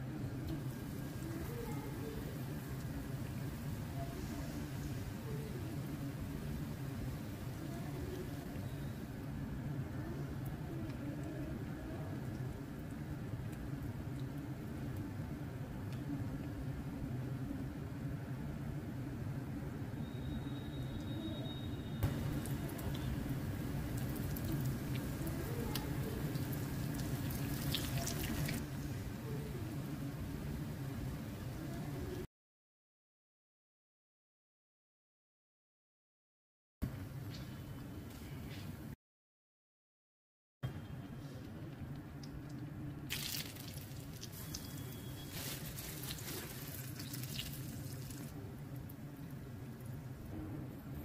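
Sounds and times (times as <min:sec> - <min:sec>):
deep-frying oil crackling: 0:00.1 - 0:32.0, 0:41.6 - 0:51.0.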